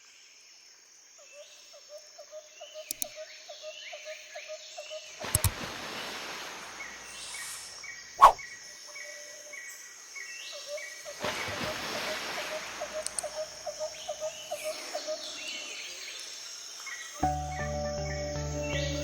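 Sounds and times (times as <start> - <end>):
birds and insects chirping: 0.0 - 19.0.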